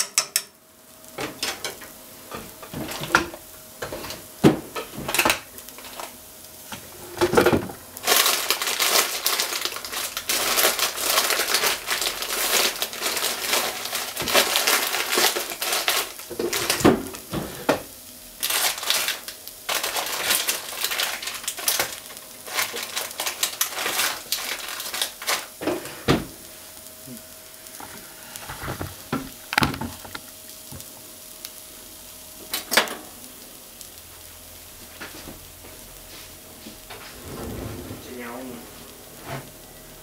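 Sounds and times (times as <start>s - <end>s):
food sizzling and crackling in pot: 0.0s - 40.0s.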